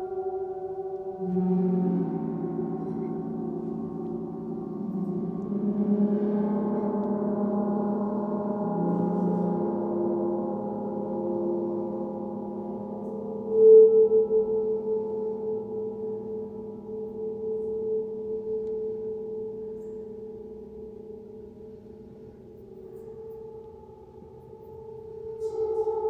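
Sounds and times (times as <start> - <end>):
low sustained ringing tones: 0.0 - 26.0.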